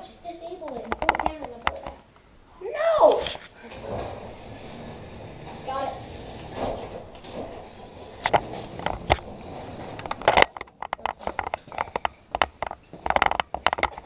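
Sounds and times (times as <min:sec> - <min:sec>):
sharp clicks and knocks: 0:00.6 - 0:02.3, 0:03.7 - 0:14.0.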